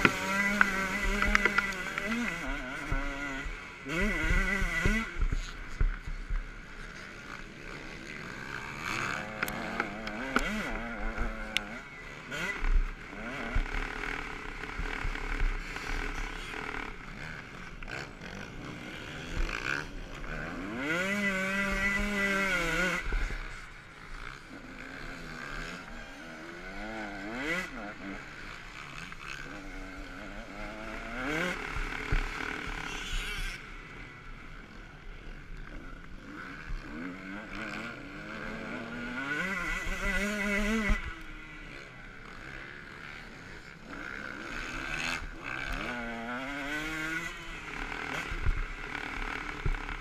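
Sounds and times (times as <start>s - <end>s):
motocross bike engine revving: 0.0s - 50.0s.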